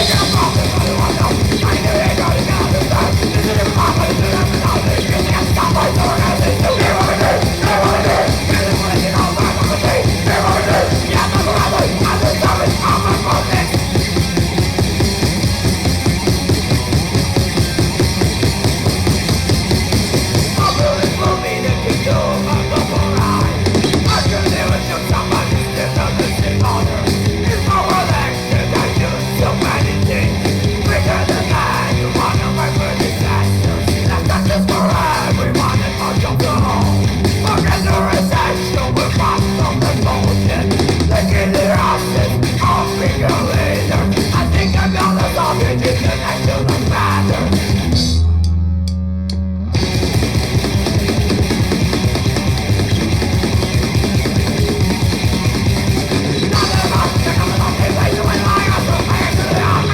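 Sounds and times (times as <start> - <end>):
grindcore band playing: 0.0 - 59.9.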